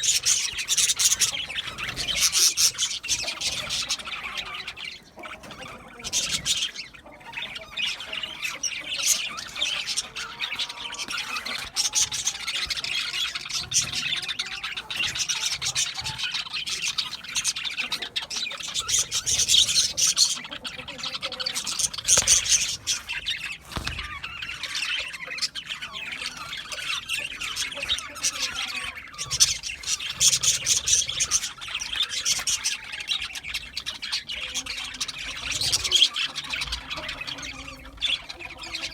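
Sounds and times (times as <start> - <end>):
budgerigar squawks: 0.0 - 38.9
budgerigars chattering and chirping: 0.0 - 38.9.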